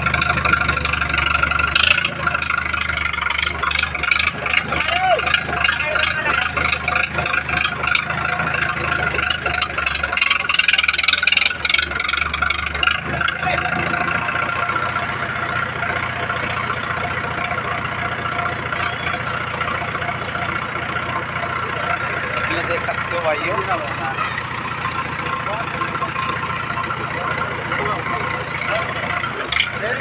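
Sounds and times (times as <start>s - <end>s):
diesel tractor engine running: 0.0s - 30.0s.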